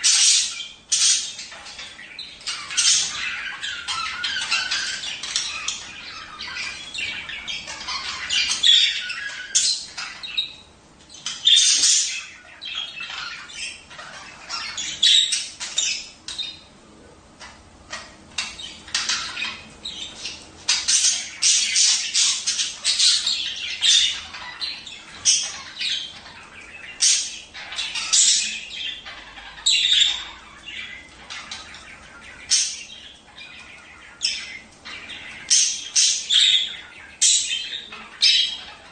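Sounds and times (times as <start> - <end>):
budgerigars chattering: 0.0 - 16.7, 17.4 - 38.9.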